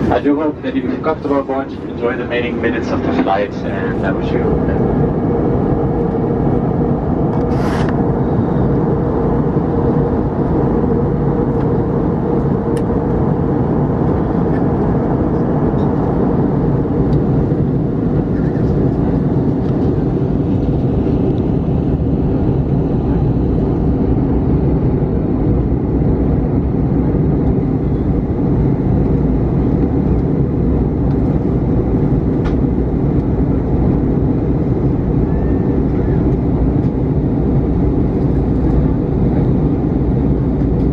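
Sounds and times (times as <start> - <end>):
aircraft cabin drone: 0.0 - 40.9
steady hum: 0.0 - 40.9.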